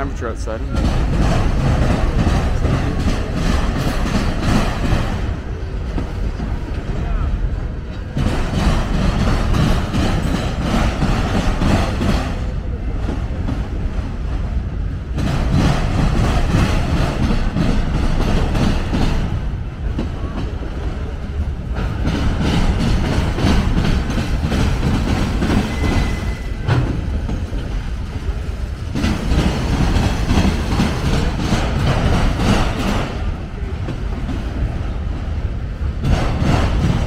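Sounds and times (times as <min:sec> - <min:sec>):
freight train rumbling past: 0:00.0 - 0:37.0
wheels clattering over rail joints: 0:00.6 - 0:07.0, 0:07.9 - 0:13.8, 0:15.1 - 0:20.5, 0:21.5 - 0:34.7, 0:36.0 - 0:37.0.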